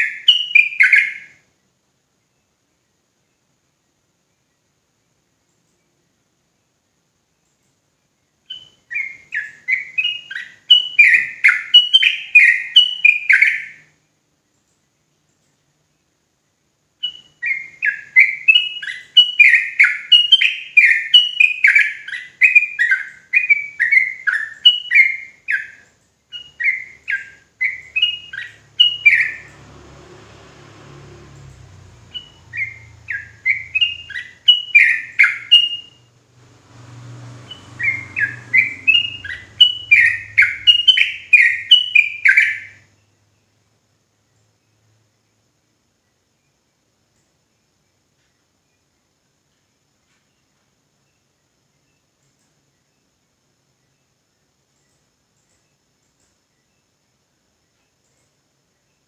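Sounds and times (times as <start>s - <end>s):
bird chirping song: 0.0s - 59.0s.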